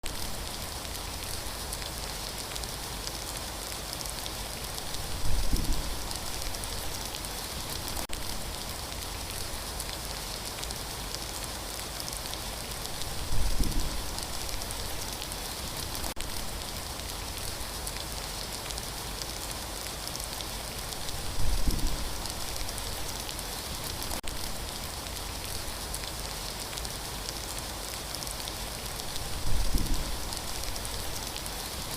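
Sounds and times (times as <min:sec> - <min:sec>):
steady rain falling: 0:00.0 - 0:31.9.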